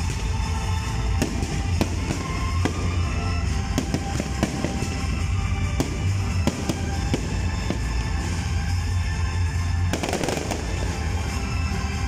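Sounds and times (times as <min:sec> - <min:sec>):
fireworks bursting: 0:00.0 - 0:12.0
music with low bass: 0:00.0 - 0:12.0.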